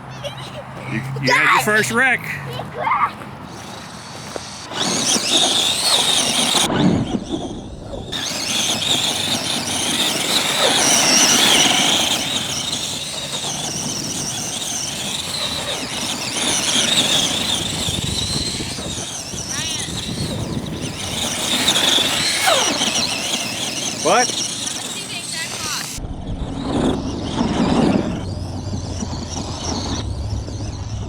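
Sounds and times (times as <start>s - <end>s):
toy truck electric motor whining: 0.0s - 26.0s, 26.6s - 31.0s.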